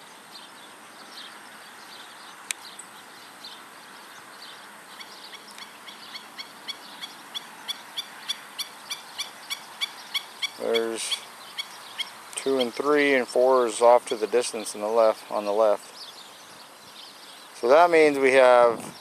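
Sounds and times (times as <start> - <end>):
birds calling sharply: 0.0 - 19.0.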